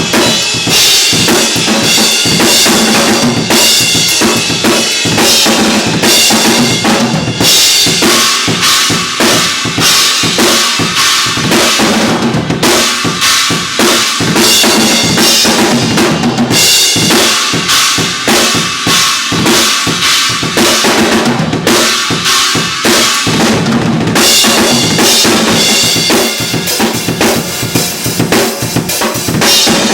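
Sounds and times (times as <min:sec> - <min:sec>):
acoustic drum kit beat: 0:00.0 - 0:29.9.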